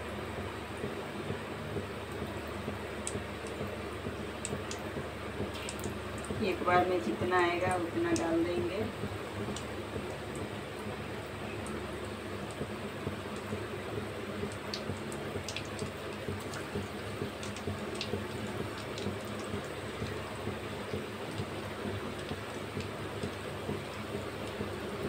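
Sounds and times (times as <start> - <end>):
low steady hum: 0.0 - 25.0
oil sizzling and bubbling: 0.0 - 25.0.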